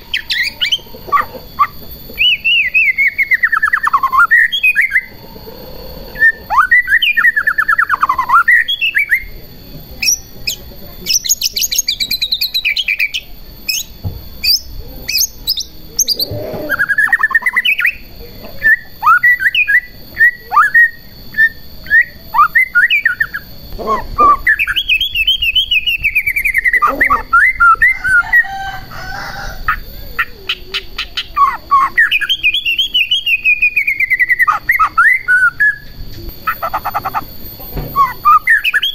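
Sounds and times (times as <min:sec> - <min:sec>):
songbird whistles and trills: 0:00.0 - 0:38.9.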